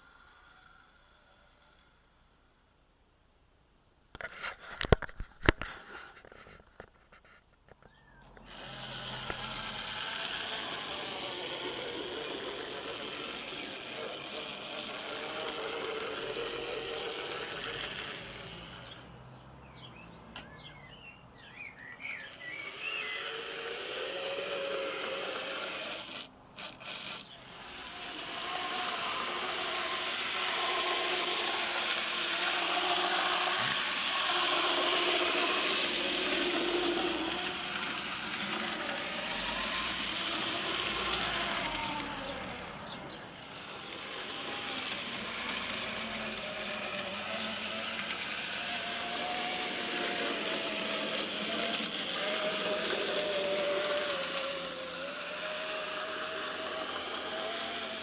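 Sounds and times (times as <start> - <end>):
model train motor whine: 0.0 - 2.5, 4.1 - 19.6, 21.8 - 58.0
wheels and gearing rattling: 4.2 - 58.0.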